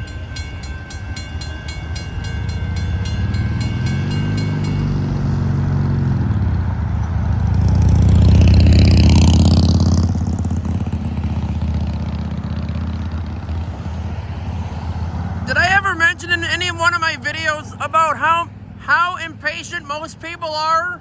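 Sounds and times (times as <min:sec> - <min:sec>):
engines pulling away: 0:00.0 - 0:21.0
vehicles crossing railroad crossing: 0:00.0 - 0:21.0.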